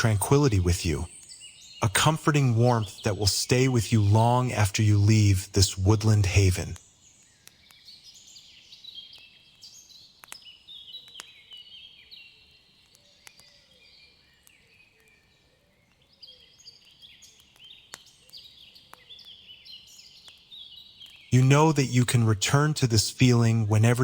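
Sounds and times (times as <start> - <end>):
birdsong chirping: 0.0 - 24.0
sharp crackles: 0.0 - 24.0.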